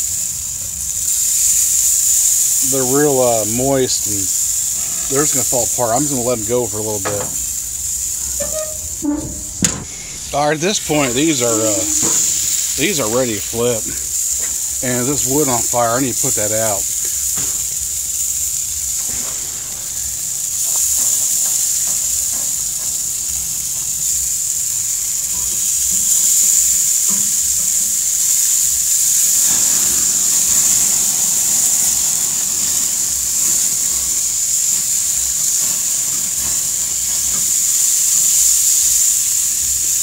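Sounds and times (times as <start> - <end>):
burger patties sizzling on grill: 0.0 - 40.0.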